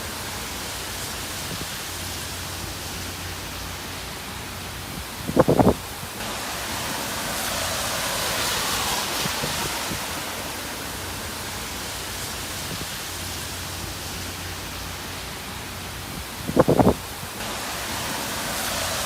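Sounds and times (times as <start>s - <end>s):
wind and rain rushing: 0.0s - 19.0s.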